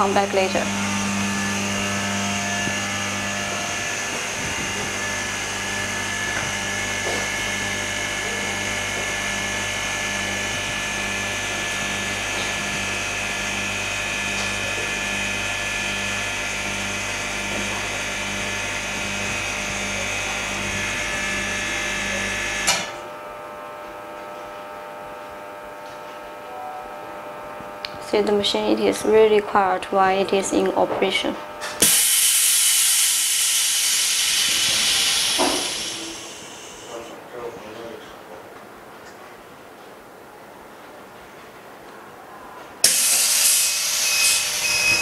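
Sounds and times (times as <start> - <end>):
laminating machine humming whine: 0.0 - 38.6, 42.2 - 45.0.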